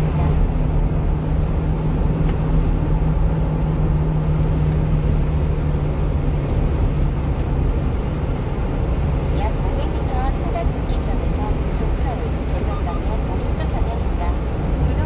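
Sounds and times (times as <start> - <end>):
truck engine drone: 0.0 - 15.0
tyre noise on wet road: 0.0 - 15.0.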